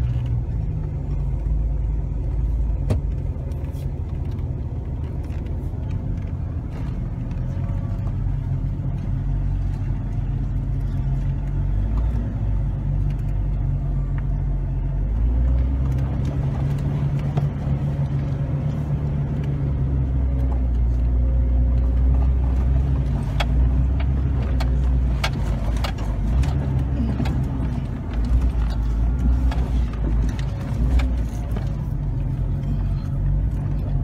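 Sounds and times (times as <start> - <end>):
vehicle engine drone: 0.0 - 34.0.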